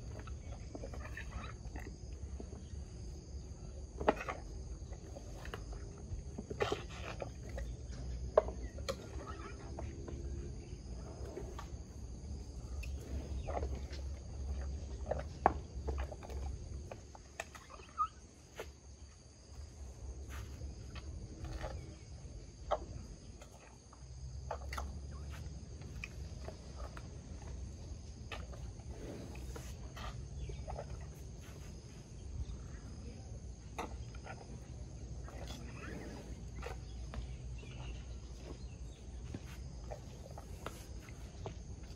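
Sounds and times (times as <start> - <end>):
elephant eating from plastic bowl: 0.0 - 32.9, 33.6 - 41.9
high insect trill: 0.0 - 41.9.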